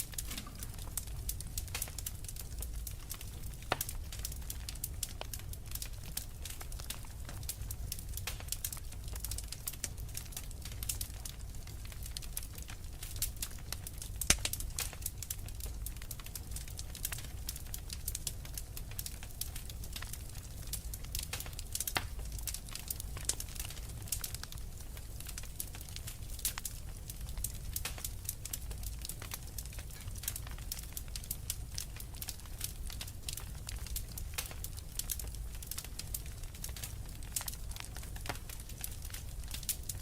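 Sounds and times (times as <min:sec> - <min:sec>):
fire crackling in a fireplace: 0:00.0 - 0:40.0
low rumble of fire: 0:00.0 - 0:40.0.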